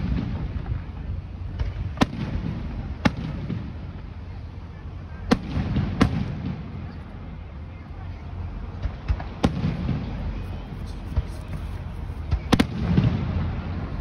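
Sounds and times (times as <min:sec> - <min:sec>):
fireworks bangs with echo: 0:00.0 - 0:04.1, 0:05.2 - 0:07.3, 0:08.6 - 0:14.0
distant fireworks rumble: 0:00.0 - 0:14.0.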